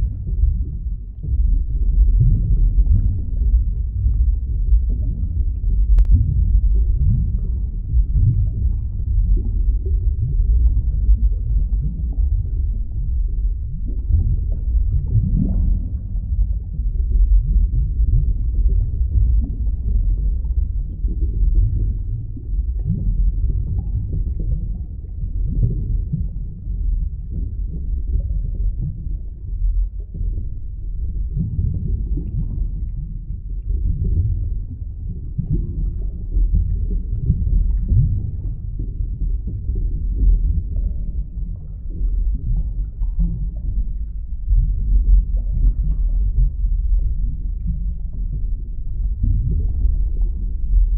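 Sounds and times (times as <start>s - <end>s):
underwater rumble of moving water: 0.0s - 50.9s.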